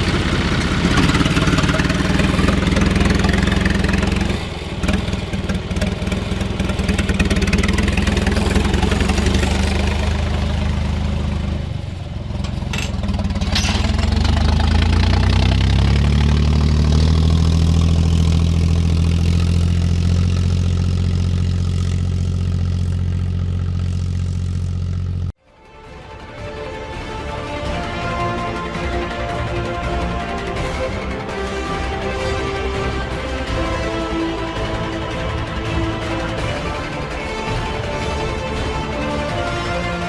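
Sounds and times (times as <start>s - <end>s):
tractor diesel engine running: 0.0s - 25.4s, 26.6s - 40.0s.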